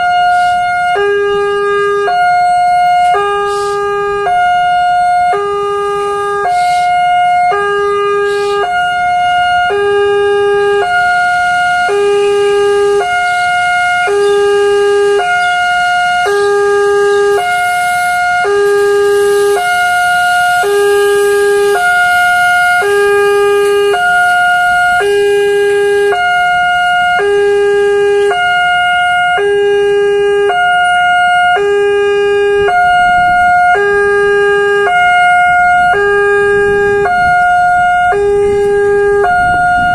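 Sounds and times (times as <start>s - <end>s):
level crossing warning siren: 0.0s - 39.9s.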